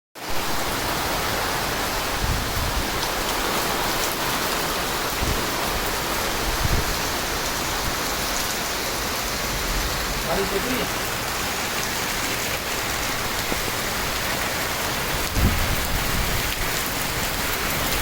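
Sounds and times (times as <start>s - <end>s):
heavy rain hissing: 0.2s - 18.0s.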